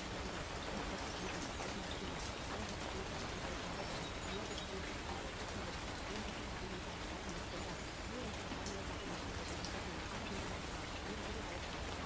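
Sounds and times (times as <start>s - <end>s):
faint murmuring voice: 0.0s - 12.0s
rain falling: 0.0s - 12.0s.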